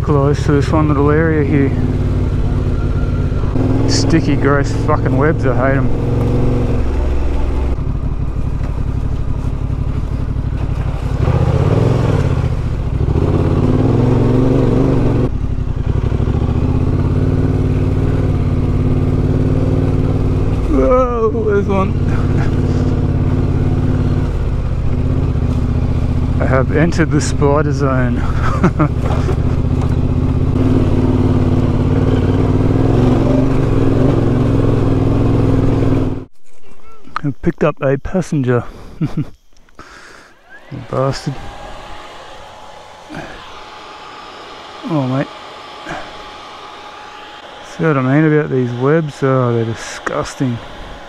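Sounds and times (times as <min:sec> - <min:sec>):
motorcycle engine running: 0:00.0 - 0:36.3, 0:40.4 - 0:51.0.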